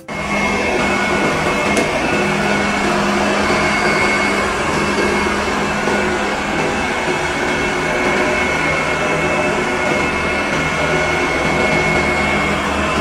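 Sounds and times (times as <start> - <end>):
high whine: 0.0 - 13.0
robot vacuum whirring: 0.0 - 13.0.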